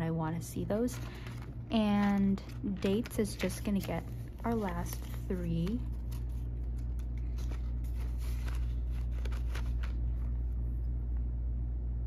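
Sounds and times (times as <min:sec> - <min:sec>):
steady low hum: 0:00.0 - 0:12.0
paper bills rustling: 0:00.8 - 0:10.6.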